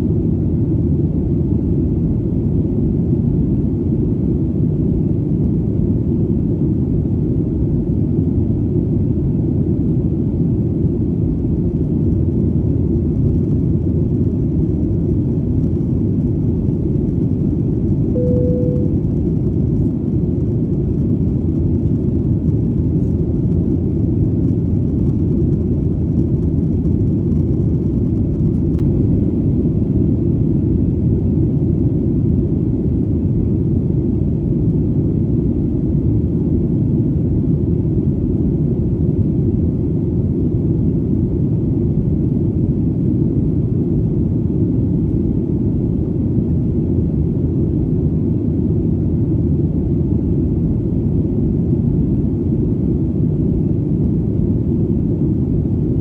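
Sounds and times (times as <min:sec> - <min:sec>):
airplane engine drone: 0:00.0 - 0:56.0.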